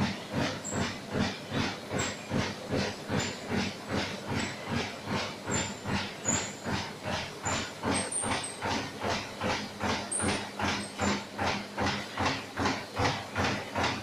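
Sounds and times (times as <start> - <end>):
printing machine rhythmic stroke: 0.0 - 14.0.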